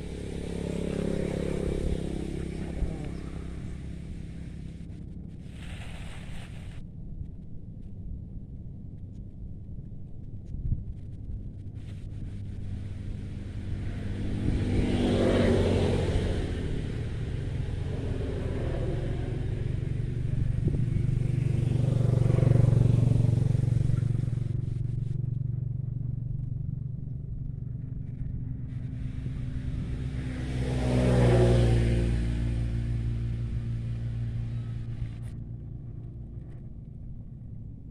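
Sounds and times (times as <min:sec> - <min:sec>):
vehicle engines passing by: 0:00.0 - 0:06.8, 0:10.9 - 0:37.9
steady low rumble: 0:00.0 - 0:37.9.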